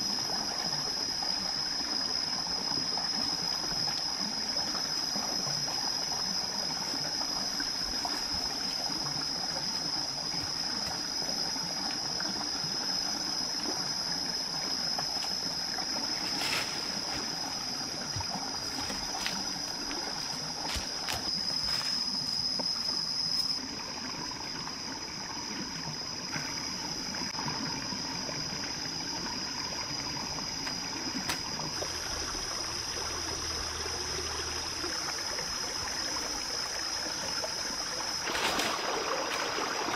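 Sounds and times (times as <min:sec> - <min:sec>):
high-pitched insect drone: 0:00.0 - 0:39.9
stream water trickling over rocks: 0:00.0 - 0:39.9.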